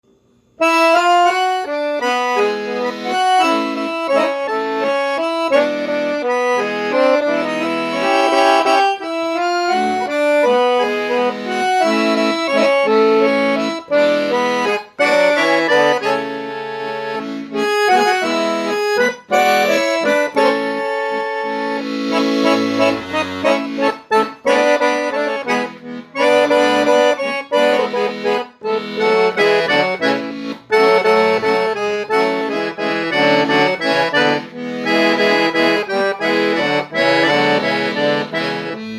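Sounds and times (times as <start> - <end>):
solo accordion melody: 0.5 - 38.9.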